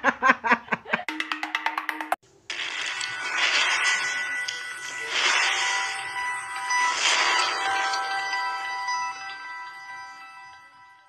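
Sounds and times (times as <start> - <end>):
held ringing tones: 1.2 - 11.0.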